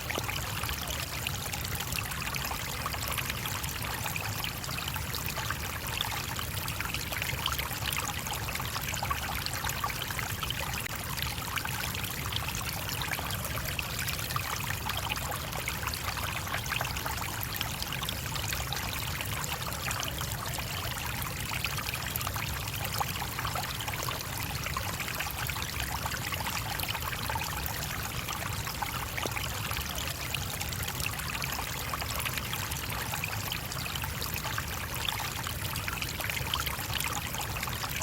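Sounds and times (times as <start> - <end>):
stream running over stones: 0.0 - 38.0.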